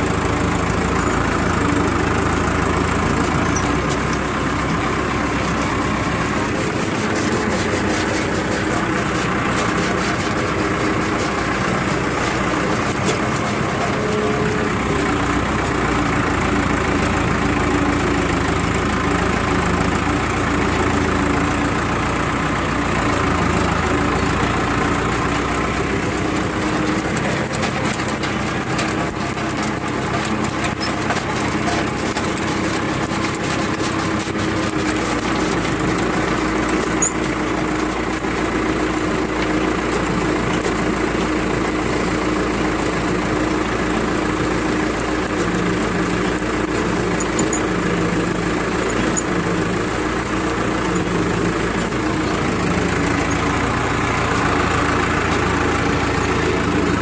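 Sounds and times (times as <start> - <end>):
potato digger clattering: 0.0 - 57.0
tractor engine running: 0.0 - 57.0.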